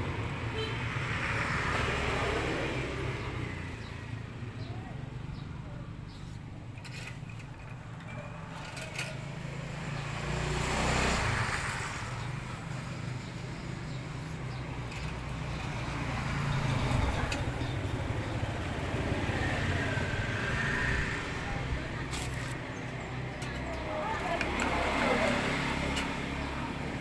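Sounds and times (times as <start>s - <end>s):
steady low traffic hum: 0.0s - 0.7s, 2.9s - 27.0s
vehicles passing: 0.0s - 27.0s.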